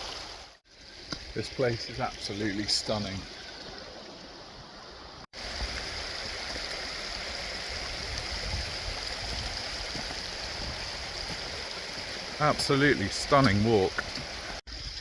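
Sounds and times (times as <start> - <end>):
stream rushing: 0.0 - 14.6.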